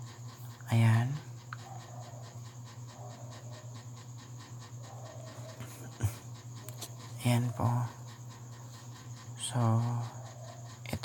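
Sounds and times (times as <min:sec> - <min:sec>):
rapid even ticking: 0:00.0 - 0:11.0
steady low hum: 0:00.0 - 0:11.0.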